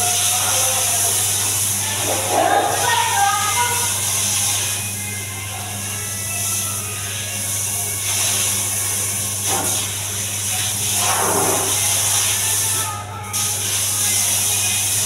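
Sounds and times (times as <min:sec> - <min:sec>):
water spraying on tiled floor: 0:00.0 - 0:15.0.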